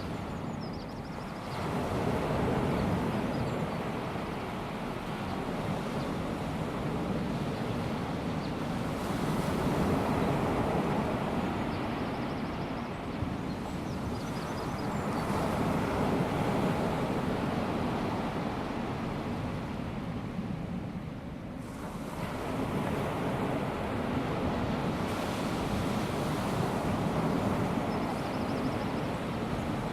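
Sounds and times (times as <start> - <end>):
small waves washing on beach: 1.2 - 29.9.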